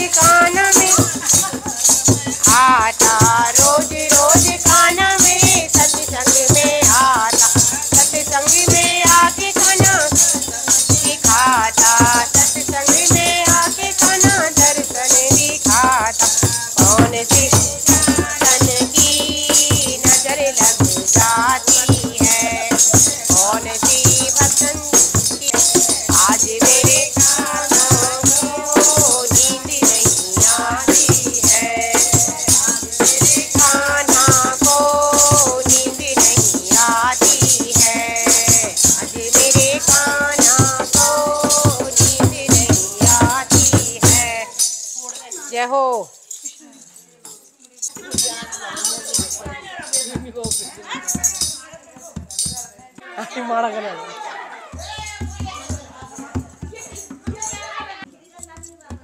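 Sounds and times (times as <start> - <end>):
women singing devotional chorus: 0.0 - 46.1, 47.9 - 59.0
jingling wooden clappers: 0.0 - 53.0, 54.7 - 59.0.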